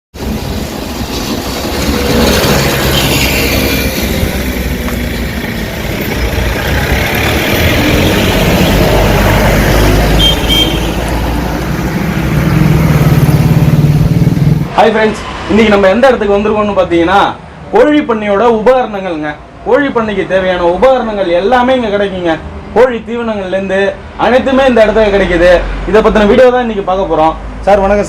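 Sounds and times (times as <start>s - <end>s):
road traffic rumble: 0.1s - 28.0s.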